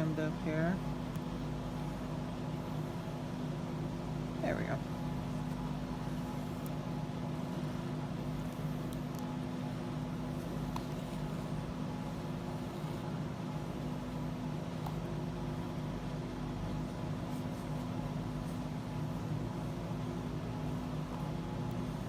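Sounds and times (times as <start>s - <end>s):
house fan running: 0.0s - 22.0s.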